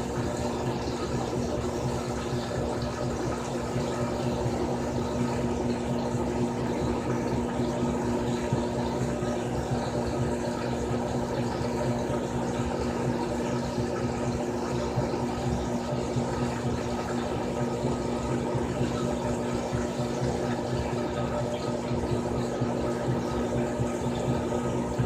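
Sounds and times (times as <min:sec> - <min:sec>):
washing machine motor hum: 0:00.0 - 0:25.0
water sloshing and pumping: 0:00.0 - 0:25.0.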